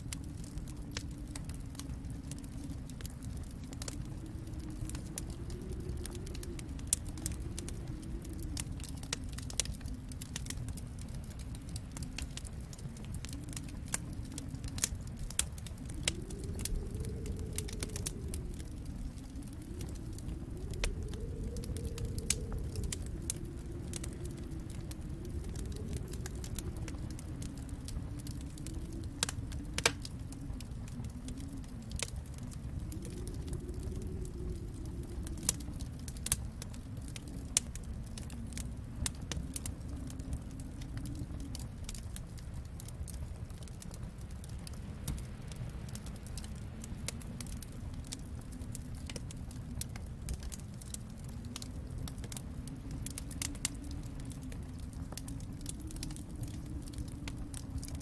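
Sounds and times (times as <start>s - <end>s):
low rumble: 0.0s - 58.0s
wood fire crackling: 0.0s - 58.0s.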